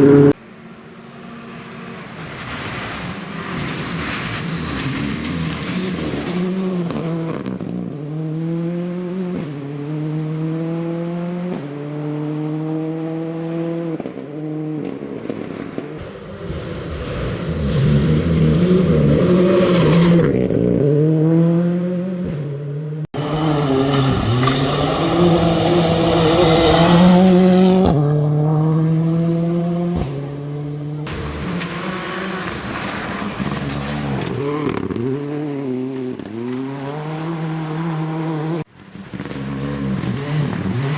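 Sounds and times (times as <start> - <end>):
rally car engine revving: 1.3 - 40.9.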